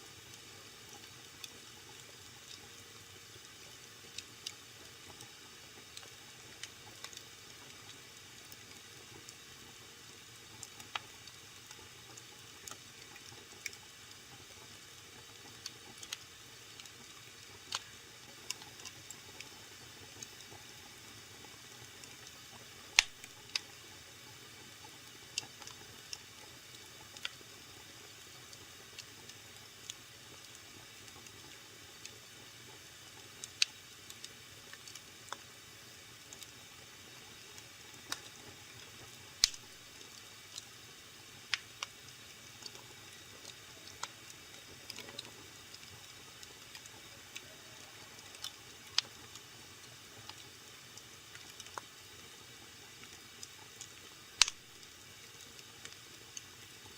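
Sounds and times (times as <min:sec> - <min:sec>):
faint steady hiss: 0:00.0 - 0:56.9
wood fire crackling: 0:00.2 - 0:56.9.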